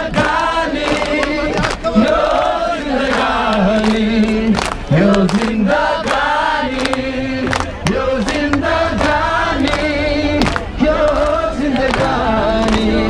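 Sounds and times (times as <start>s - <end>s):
crowd singing in unison: 0.0s - 13.0s.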